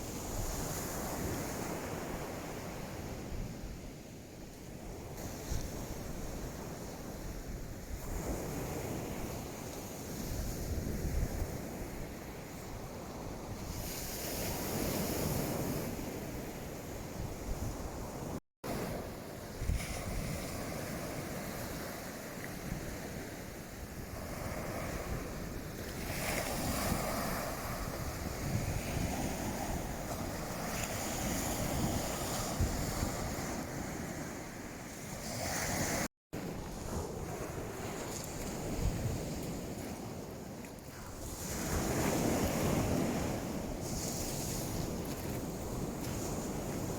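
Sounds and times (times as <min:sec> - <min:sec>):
waves washing onto beach: 0:04.8 - 0:46.9
wind buffeting microphone: 0:04.8 - 0:46.9.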